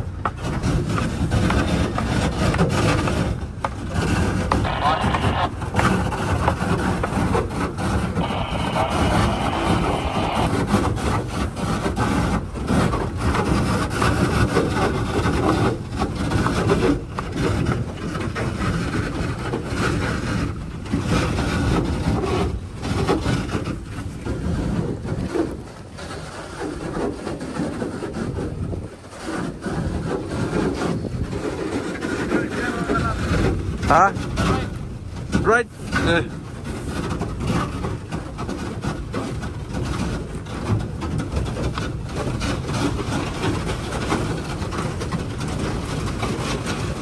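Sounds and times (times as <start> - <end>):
boat engine and water rush: 0.0 - 47.0.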